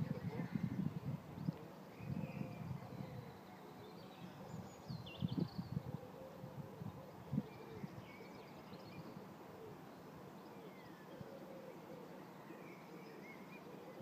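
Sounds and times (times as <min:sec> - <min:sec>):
faint birds calling: 0:00.0 - 0:14.0
low steady outdoor background: 0:00.0 - 0:14.0.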